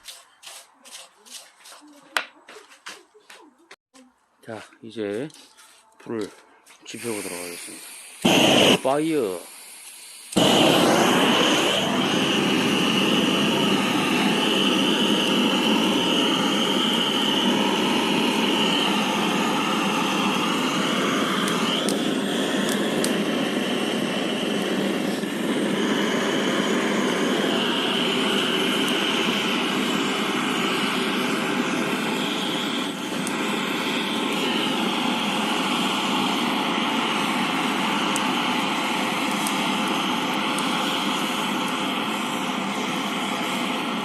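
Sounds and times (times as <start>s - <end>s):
jet-like roar of fire lighter: 6.9s - 44.0s
high steady whistle: 7.0s - 44.0s.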